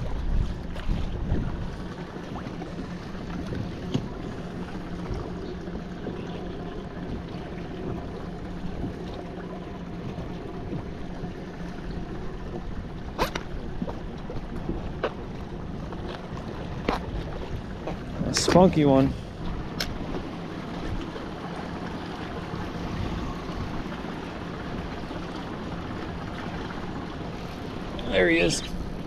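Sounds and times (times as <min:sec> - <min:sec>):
low steady hum: 0:00.0 - 0:29.0
wind and water noise: 0:00.0 - 0:29.0.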